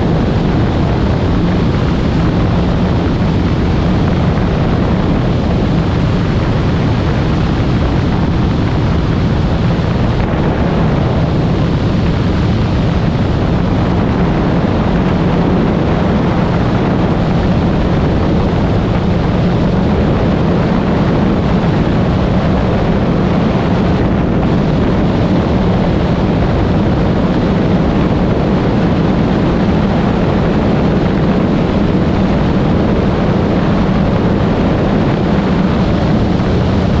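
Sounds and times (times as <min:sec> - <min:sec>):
plane engine and propeller droning: 0:00.0 - 0:37.0
wind rush over microphone: 0:00.0 - 0:37.0.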